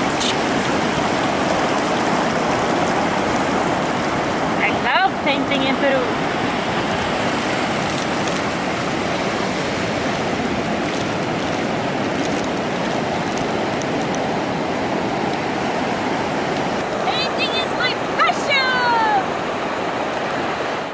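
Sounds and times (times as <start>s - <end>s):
ocean surf on beach: 0.0s - 20.9s.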